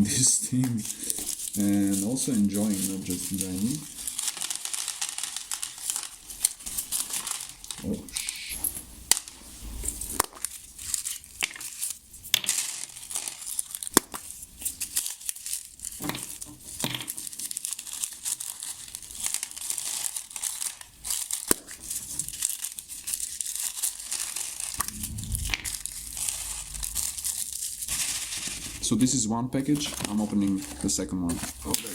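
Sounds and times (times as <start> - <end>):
packaging crinkling and rustling: 0.5 - 8.0, 9.2 - 24.8, 25.9 - 31.9.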